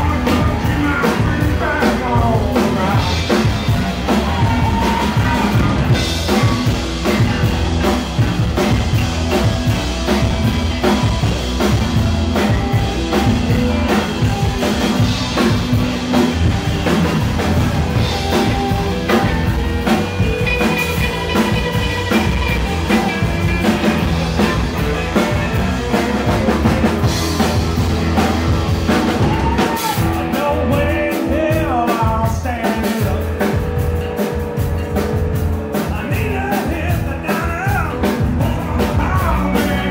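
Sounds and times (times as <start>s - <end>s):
blues-rock band playing: 0.0s - 39.9s.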